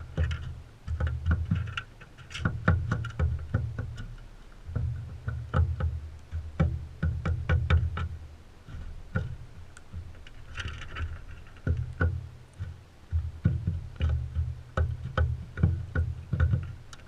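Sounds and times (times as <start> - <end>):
birds pecking at seed: 0.0 - 17.0.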